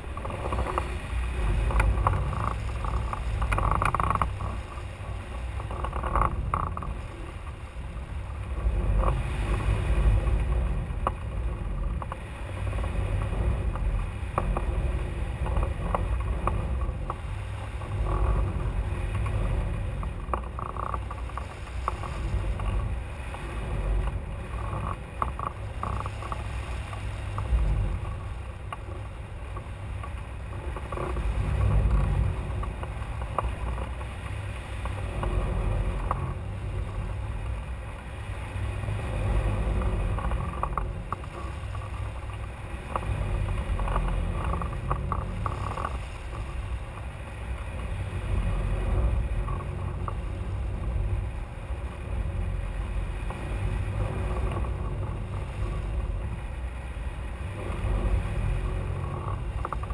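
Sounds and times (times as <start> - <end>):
light clicks and rattles: 0.0 - 59.9
wind buffeting microphone: 0.0 - 59.9.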